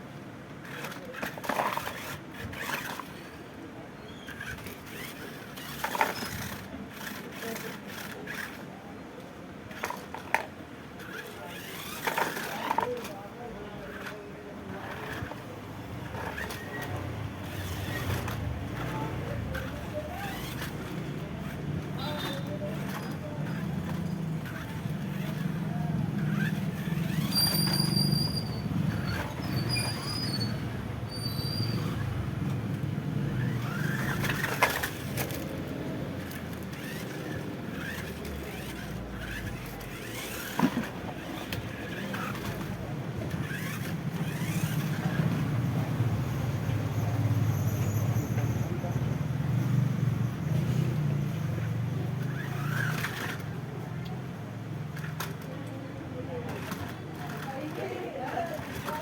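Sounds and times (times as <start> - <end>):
toy electric motor humming: 0.6 - 3.4, 4.2 - 8.9, 9.7 - 47.9, 49.4 - 55.5.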